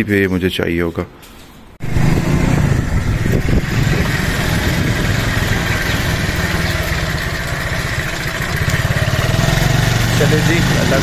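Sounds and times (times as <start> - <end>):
motorcycle engine idling: 1.8 - 11.0.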